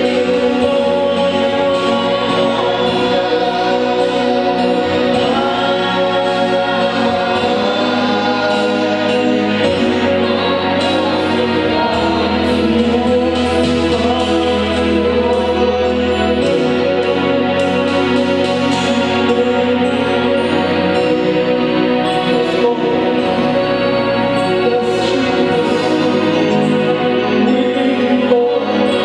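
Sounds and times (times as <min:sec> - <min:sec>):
choir singing: 0:00.0 - 0:29.0
instrumental accompaniment with bass: 0:00.0 - 0:29.0.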